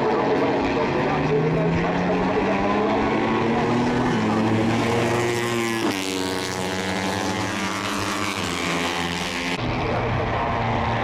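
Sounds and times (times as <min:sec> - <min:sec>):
race motorcycle engines revving: 0:00.0 - 0:11.0.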